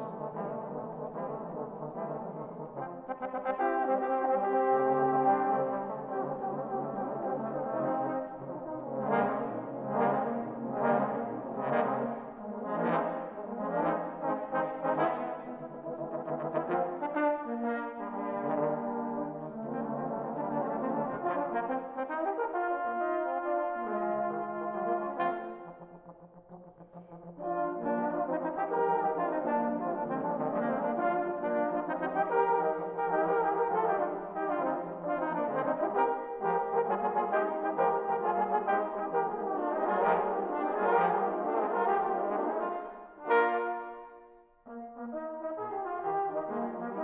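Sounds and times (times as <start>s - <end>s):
tenor horn ensemble playing: 0.0s - 25.8s, 27.4s - 47.0s.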